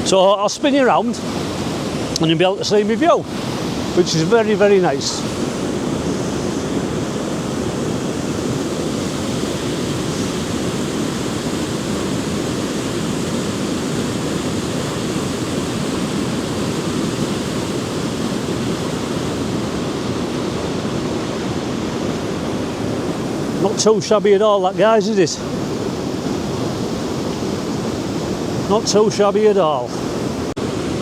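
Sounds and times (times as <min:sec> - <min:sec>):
waterfall rushing water: 0:00.0 - 0:31.0.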